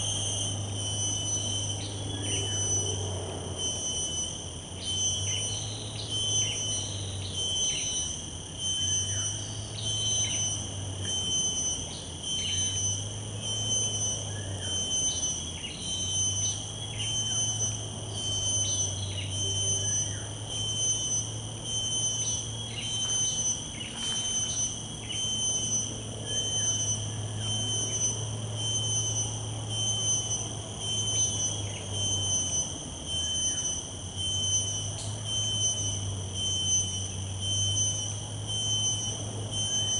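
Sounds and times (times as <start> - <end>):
high-pitched insect whine: 0.0 - 39.9
low hum: 0.0 - 39.9.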